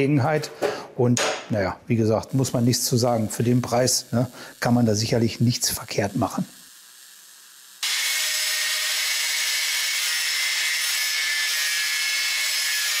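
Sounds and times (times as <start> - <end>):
angle grinder on steel: 2.2 - 13.0.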